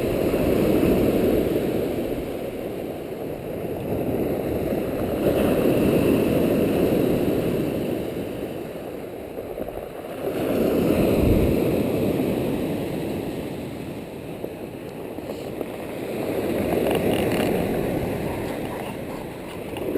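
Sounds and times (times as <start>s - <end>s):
sea waves washing onto shore: 0.0s - 19.9s.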